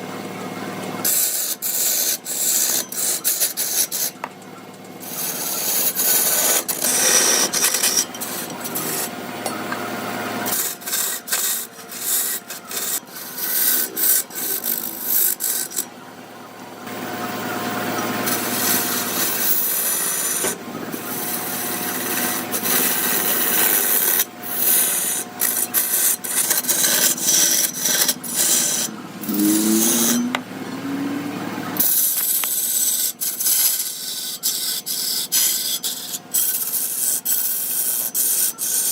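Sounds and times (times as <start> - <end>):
tools rasping against wood: 1.0 - 4.3, 5.0 - 9.8, 10.4 - 15.9, 18.2 - 30.4, 31.8 - 38.9.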